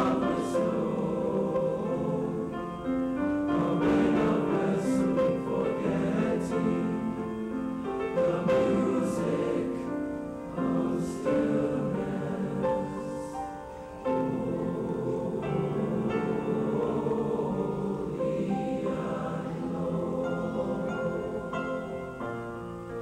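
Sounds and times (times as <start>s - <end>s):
choir singing in parts: 0.0s - 23.0s.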